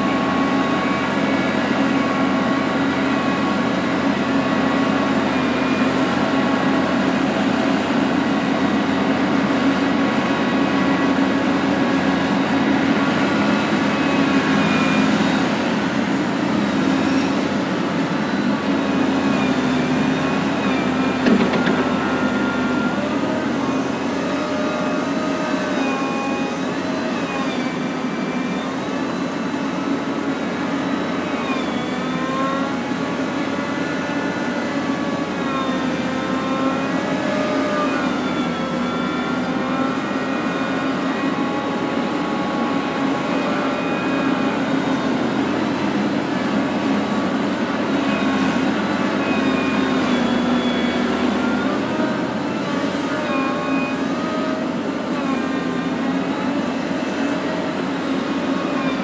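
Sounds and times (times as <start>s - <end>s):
excavator diesel engine: 0.0s - 59.0s
hydraulic whines: 0.0s - 59.0s.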